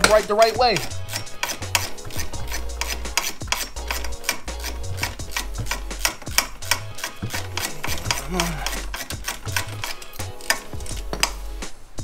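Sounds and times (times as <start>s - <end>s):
ratchet wrench clicking: 0.0s - 11.6s
background music with bass line: 0.0s - 12.0s.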